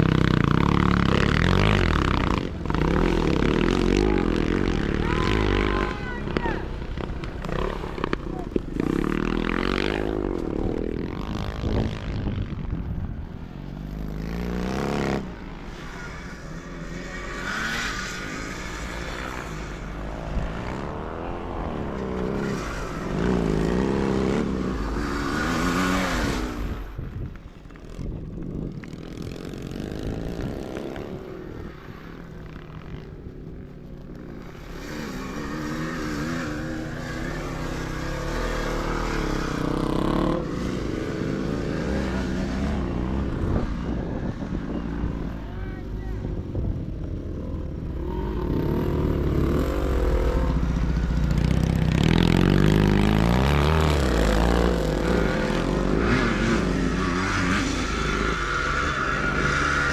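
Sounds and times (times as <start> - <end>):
motorcycle engines revving past: 0.0 - 59.9.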